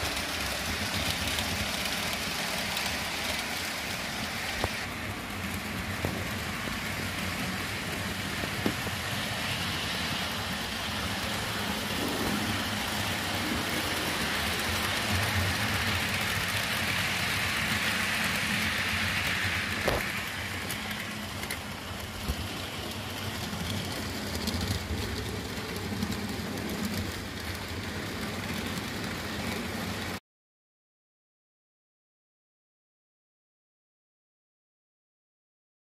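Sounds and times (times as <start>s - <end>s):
model train whirring and rattling: 0.0s - 30.2s.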